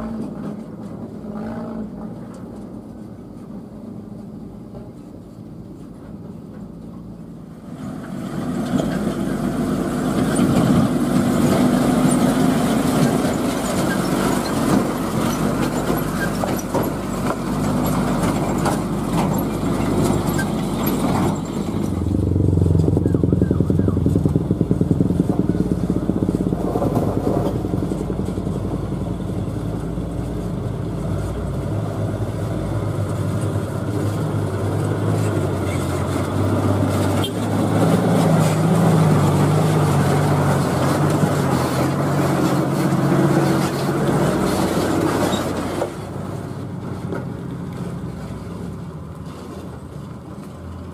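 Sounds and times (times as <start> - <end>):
dump truck engines: 0.0 - 50.9
deep throbbing truck engine: 5.6 - 50.9.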